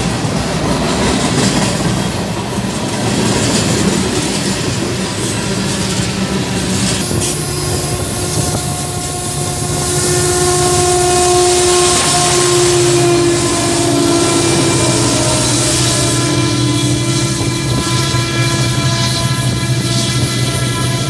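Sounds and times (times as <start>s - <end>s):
diesel locomotive engine whine: 0.0s - 21.0s
freight cars rolling over rails: 0.0s - 21.0s.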